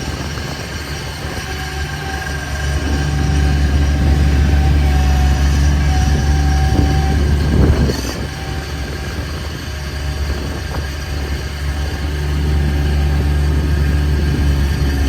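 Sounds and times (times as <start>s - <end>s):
loader engine running: 0.0s - 15.0s
steady whine: 0.0s - 15.0s.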